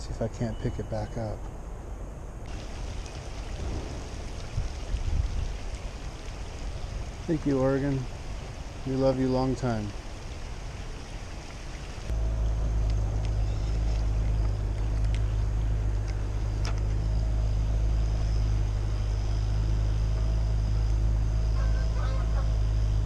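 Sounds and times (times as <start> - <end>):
boat engine humming: 2.5 - 23.0.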